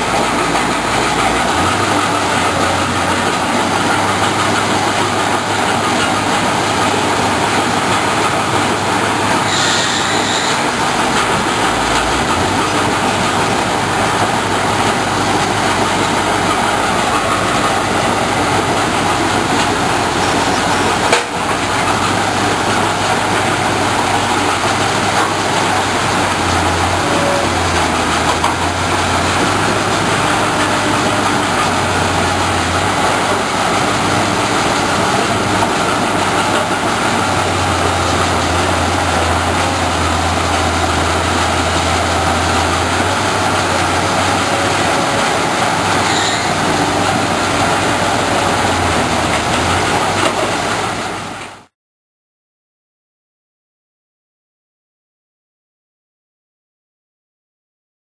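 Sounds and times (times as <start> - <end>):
excavator diesel engine: 0.0 - 51.7.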